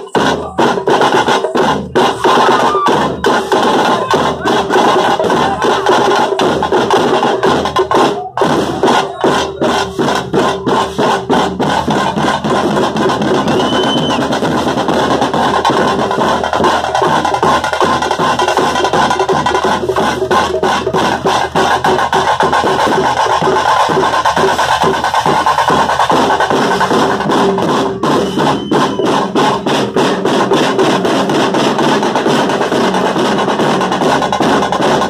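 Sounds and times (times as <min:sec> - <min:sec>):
frame drums beaten fast: 0:00.0 - 0:35.0.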